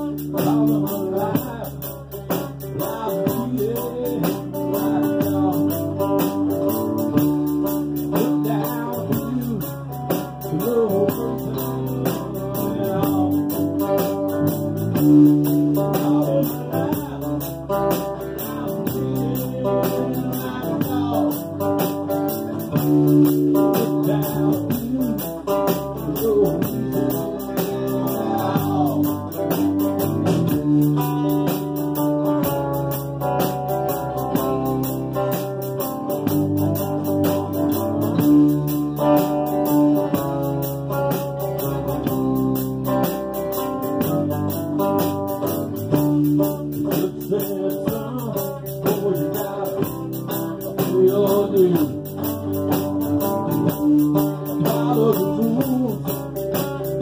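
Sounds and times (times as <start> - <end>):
acoustic guitars strummed: 0.0 - 57.0
bass guitar: 0.0 - 57.0.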